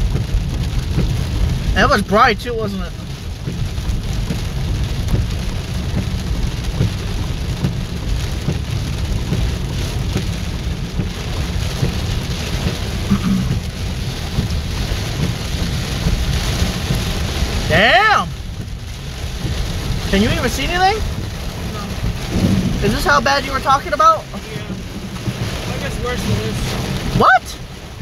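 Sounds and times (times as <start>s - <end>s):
heavy rain drumming on car roof: 0.0s - 28.0s
low rumble: 2.8s - 17.7s, 18.3s - 28.0s.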